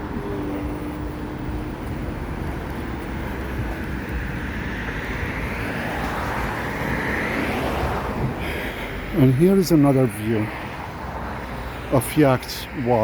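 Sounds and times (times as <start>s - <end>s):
passing motor vehicle rumble: 0.0s - 13.0s.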